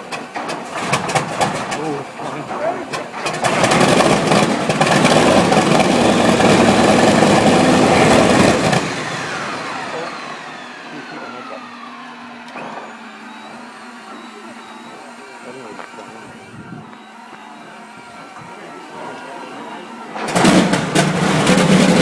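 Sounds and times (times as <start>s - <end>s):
aircraft engine cranking and firing: 0.0s - 22.0s.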